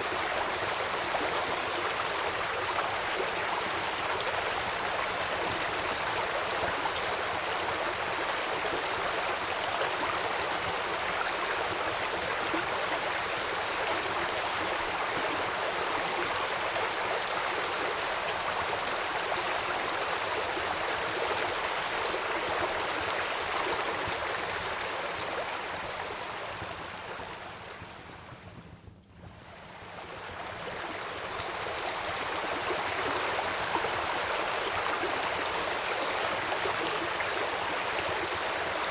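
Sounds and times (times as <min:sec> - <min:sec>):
stream rushing: 0:00.0 - 0:26.4, 0:30.2 - 0:38.9.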